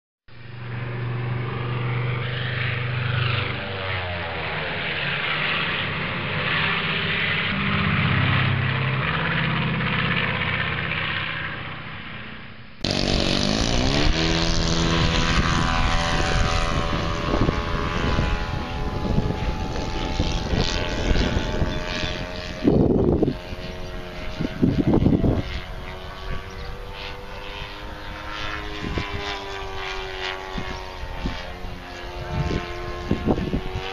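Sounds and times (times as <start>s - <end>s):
model airplane engine drone: 0.3s - 33.9s.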